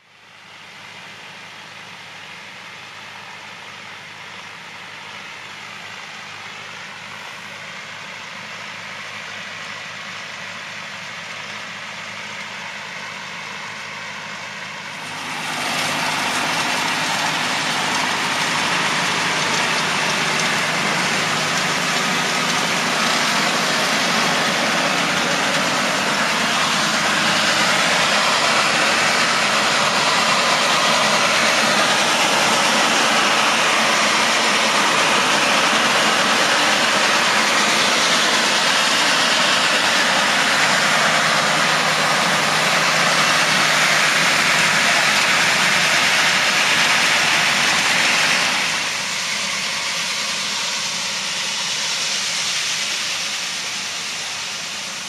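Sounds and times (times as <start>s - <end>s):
tractor engine and machinery: 0.0s - 55.0s.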